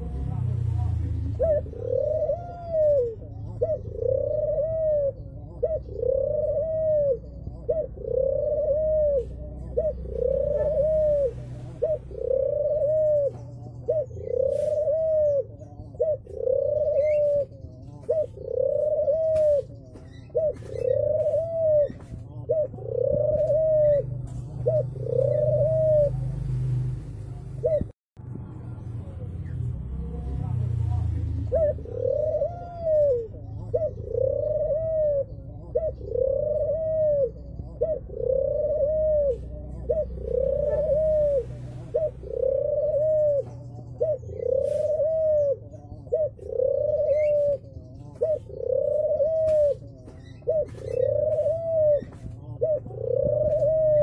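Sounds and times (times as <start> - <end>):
dove cooing: 0.0 - 27.9, 30.1 - 54.0.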